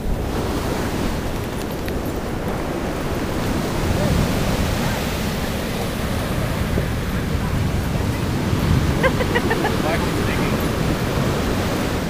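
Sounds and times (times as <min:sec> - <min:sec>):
ocean surf washing up: 0:00.0 - 0:12.0.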